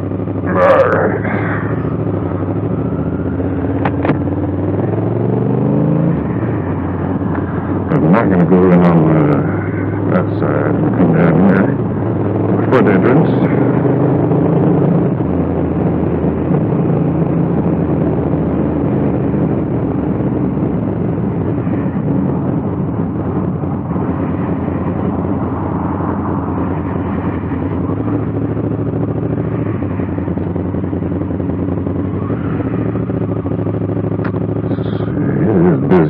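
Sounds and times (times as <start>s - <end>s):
motorcycle engine running at low revs: 0.0s - 36.0s.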